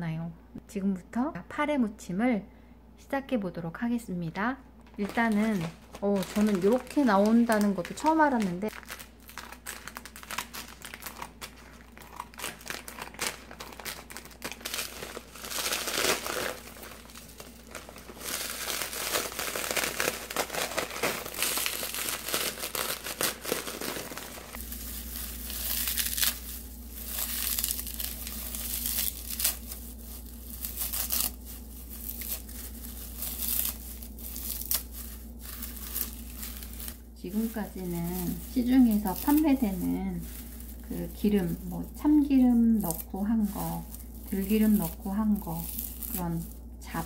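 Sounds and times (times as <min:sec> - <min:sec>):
plastic bag crinkling: 0:04.8 - 0:47.0
dry seaweed crackling: 0:04.9 - 0:47.0.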